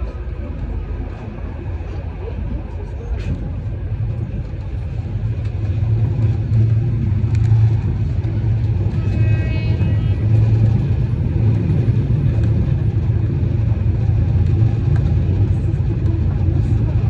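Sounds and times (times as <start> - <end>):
vehicle driving rumble: 0.0 - 17.0.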